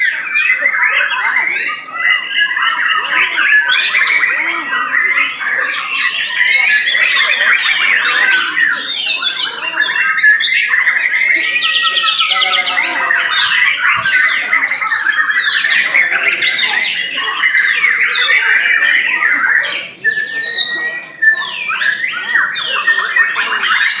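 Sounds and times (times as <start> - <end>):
many birds singing: 0.0 - 24.0.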